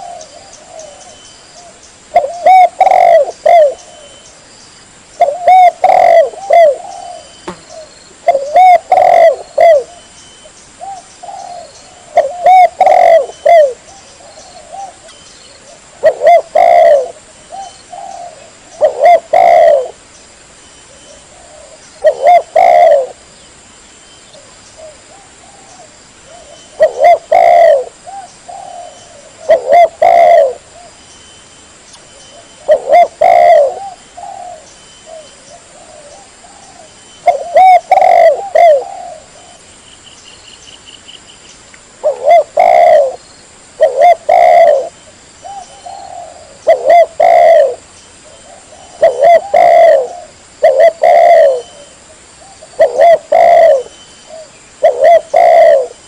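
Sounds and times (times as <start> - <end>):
dove cooing: 0.0 - 4.2, 5.2 - 10.1, 10.8 - 20.0, 20.9 - 23.2, 24.4 - 31.0, 32.3 - 39.7, 42.0 - 43.2, 43.8 - 56.0.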